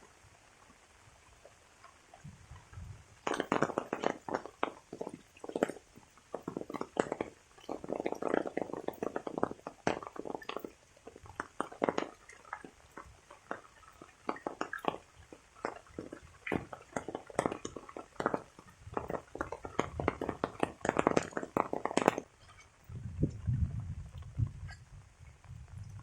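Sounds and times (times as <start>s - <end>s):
rainwater dripping and splashing: 0.0s - 26.0s.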